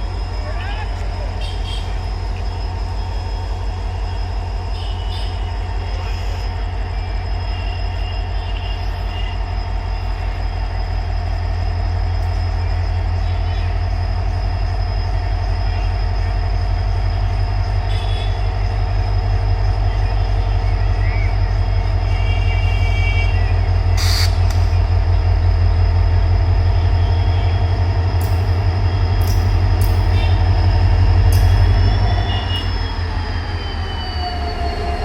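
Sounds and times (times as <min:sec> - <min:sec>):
diesel locomotive engine chugging: 0:00.0 - 0:35.0.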